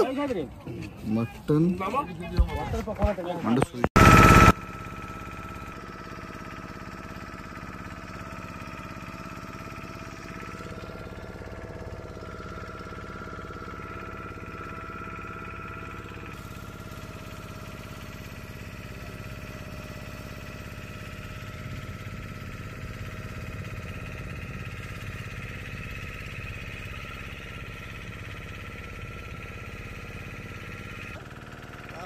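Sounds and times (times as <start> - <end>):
motor boat engine running: 4.0 - 32.0.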